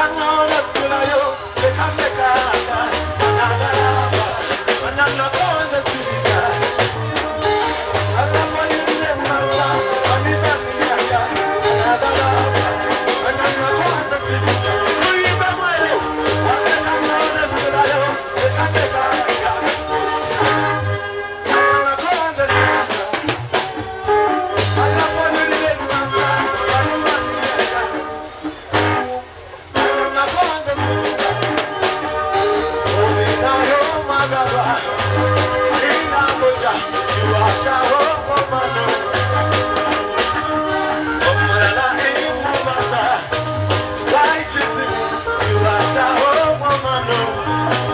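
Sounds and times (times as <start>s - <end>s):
live band dance beat: 0.0s - 47.9s.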